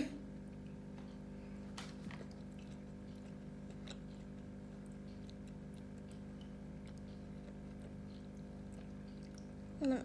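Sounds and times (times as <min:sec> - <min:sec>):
child chewing: 0:00.0 - 0:10.0.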